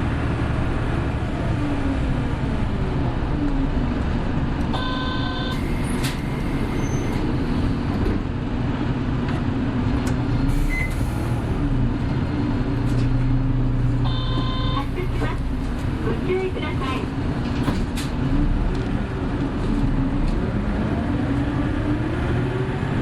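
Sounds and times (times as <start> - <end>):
bus diesel engine drone: 0.0 - 23.0.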